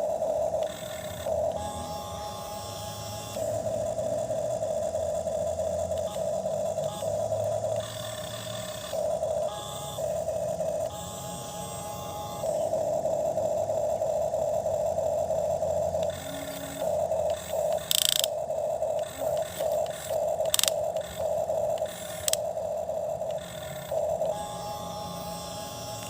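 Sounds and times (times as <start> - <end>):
toy electric motor whining: 0.0 - 26.0.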